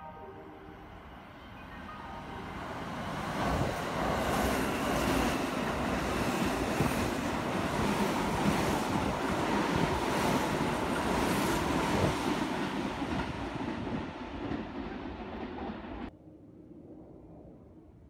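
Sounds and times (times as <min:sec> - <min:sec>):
train passing at speed: 0:00.0 - 0:16.1.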